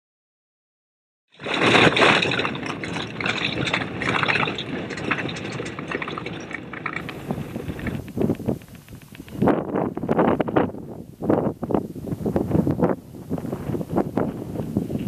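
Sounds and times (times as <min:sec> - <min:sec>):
wind buffeting microphone: 0:01.4 - 0:15.0.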